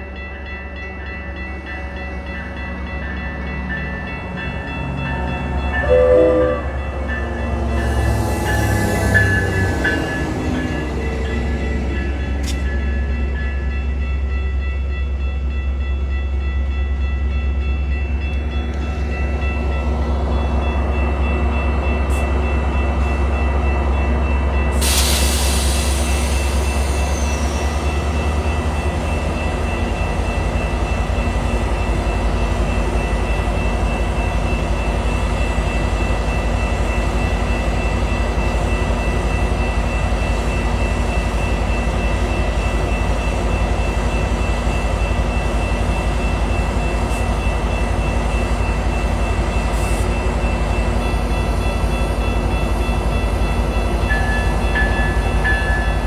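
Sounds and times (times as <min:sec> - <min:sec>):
diesel locomotive humming: 0:00.0 - 0:56.0.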